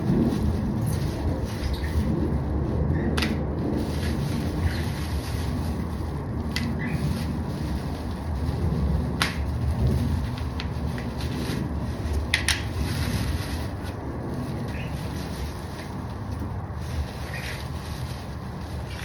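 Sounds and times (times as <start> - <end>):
wind buffeting microphone: 0.0 - 19.0
clicks and rustles of handling: 3.0 - 19.0.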